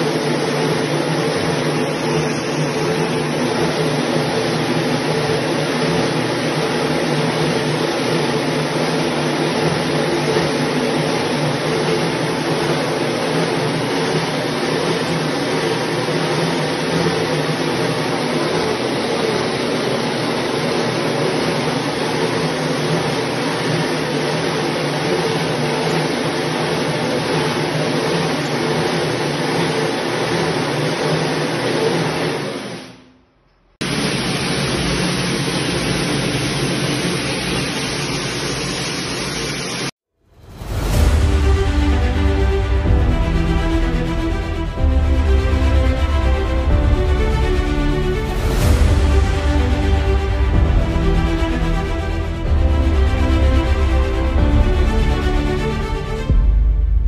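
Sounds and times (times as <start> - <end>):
machine mechanical whir: 0.0 - 57.0.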